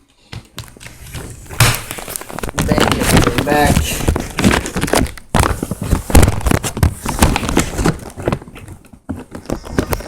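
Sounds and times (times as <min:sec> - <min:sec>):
laptop knocks and clatters: 0:00.3 - 0:10.0.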